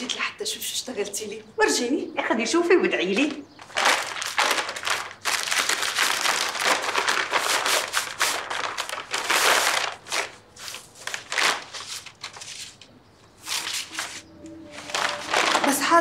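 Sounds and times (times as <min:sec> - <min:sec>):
bag crinkling and rustling: 0:03.2 - 0:16.0.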